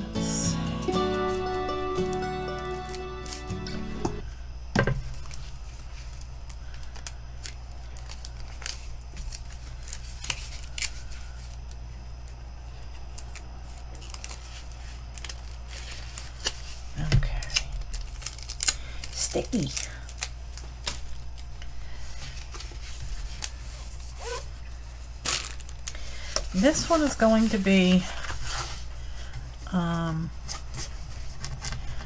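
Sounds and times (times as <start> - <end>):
plastic wrap and paper rustling: 5.1 - 32.0.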